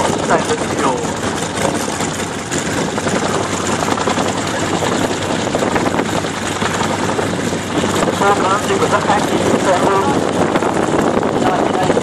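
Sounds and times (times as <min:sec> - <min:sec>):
helicopter in flight: 0:00.0 - 0:12.0.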